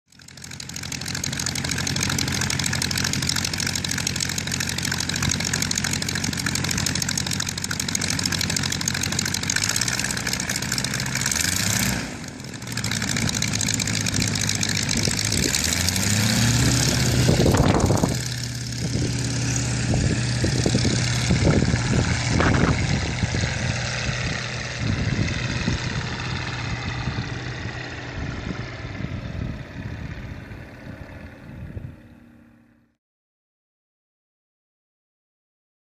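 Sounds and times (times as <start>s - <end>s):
radial aircraft engine running: 0.1s - 32.9s.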